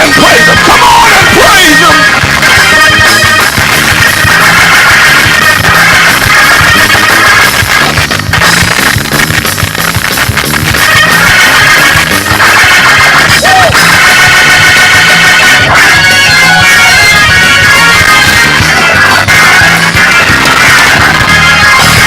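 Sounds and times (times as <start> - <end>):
loud church band music: 0.0 - 22.0.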